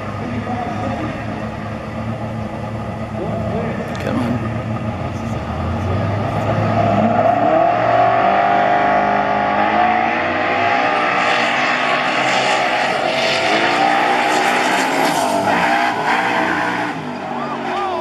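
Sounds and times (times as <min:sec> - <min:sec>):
drag racing engines accelerating: 0:00.0 - 0:18.0.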